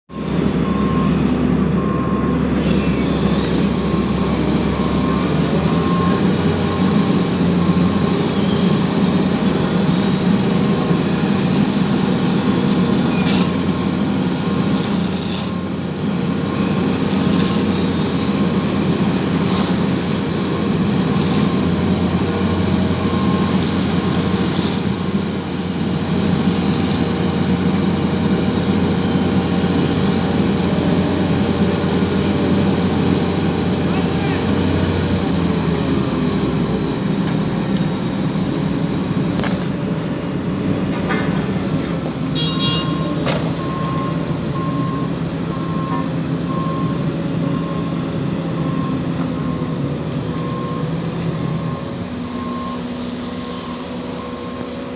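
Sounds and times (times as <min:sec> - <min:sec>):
heavy machinery running: 0:00.1 - 0:54.9.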